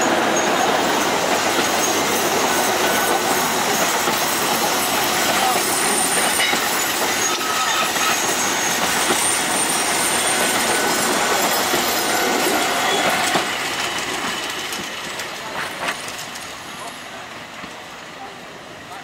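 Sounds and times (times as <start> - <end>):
train wheels clattering over joints: 0.0 - 17.0
train wheels squealing: 0.0 - 17.2.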